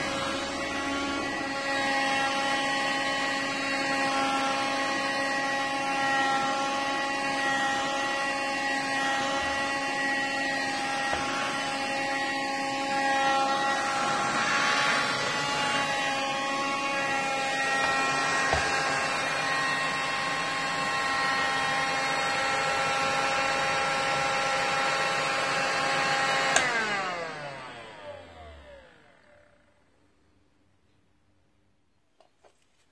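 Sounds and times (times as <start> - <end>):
vacuum motor winding down: 0.0 - 29.7
handheld vacuum cleaner motor whine: 0.0 - 29.9.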